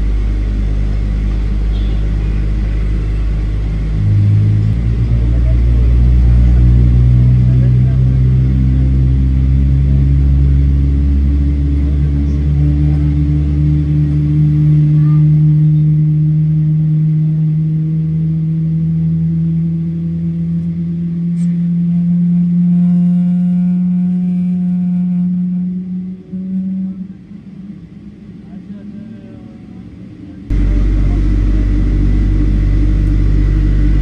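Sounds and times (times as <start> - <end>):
deep rumble: 0.0 - 34.0
high engine whine: 0.0 - 34.0
jet engine drone: 0.0 - 34.0.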